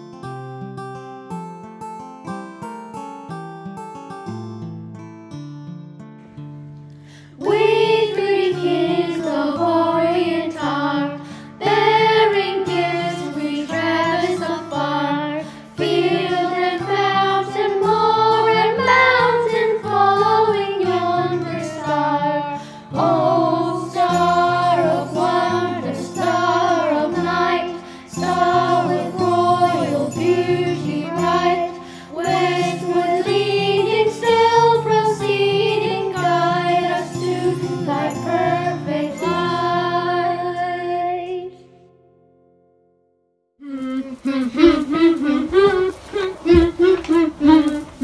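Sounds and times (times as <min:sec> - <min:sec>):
voices singing a melody: 0:07.4 - 0:41.6, 0:43.6 - 0:48.0.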